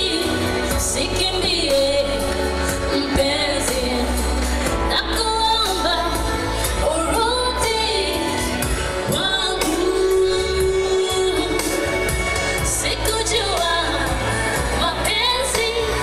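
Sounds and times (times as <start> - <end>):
instrumental music with bass and beat: 0.0 - 16.0
woman singing into microphone: 0.0 - 16.0.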